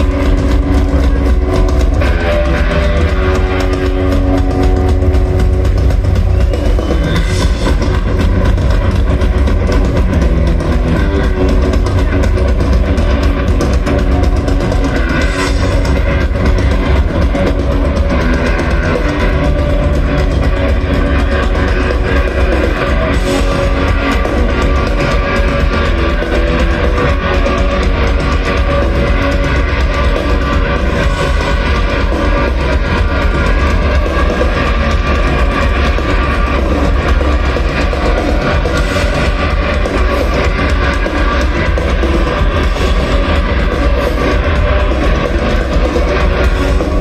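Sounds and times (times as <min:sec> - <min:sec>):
bass: 0:00.0 - 0:47.0
distorted electric guitars: 0:00.0 - 0:47.0
drums: 0:00.0 - 0:47.0.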